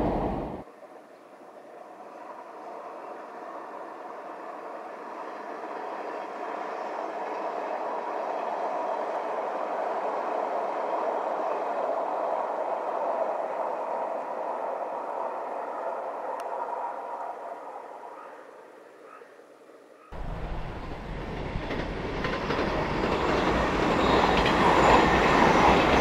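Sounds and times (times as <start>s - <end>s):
train wheels rolling on rail: 0.0s - 0.7s, 1.4s - 17.9s, 20.2s - 26.0s.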